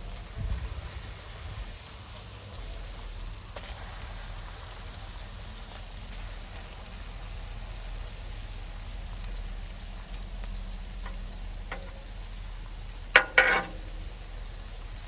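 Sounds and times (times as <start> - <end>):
burger patties sizzling on griddle: 0.0 - 15.0.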